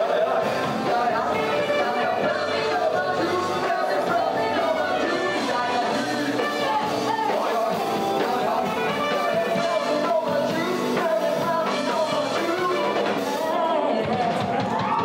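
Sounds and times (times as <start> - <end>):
electric guitar: 0.0 - 15.0
lead singer: 0.0 - 15.0
live band playing: 0.0 - 15.0.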